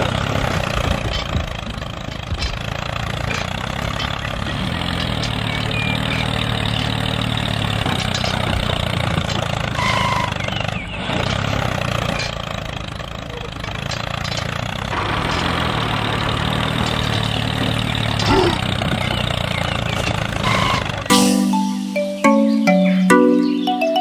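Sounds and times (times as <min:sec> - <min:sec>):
model tractor engine humming: 0:00.0 - 0:21.1.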